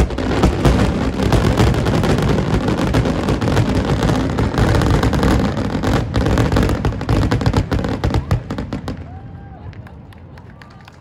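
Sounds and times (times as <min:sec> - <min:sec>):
fireworks booming and crackling: 0:00.0 - 0:10.1.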